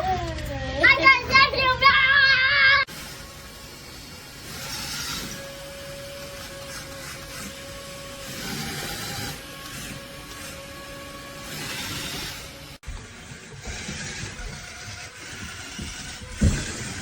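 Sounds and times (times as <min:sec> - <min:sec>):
toy electric motor whirring: 0:00.0 - 0:17.0.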